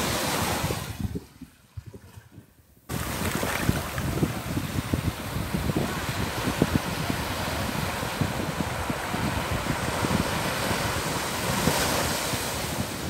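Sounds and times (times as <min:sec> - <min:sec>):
waves washing up sandy shore: 0:00.0 - 0:01.4, 0:02.9 - 0:13.0
wind buffeting microphone: 0:00.0 - 0:13.0.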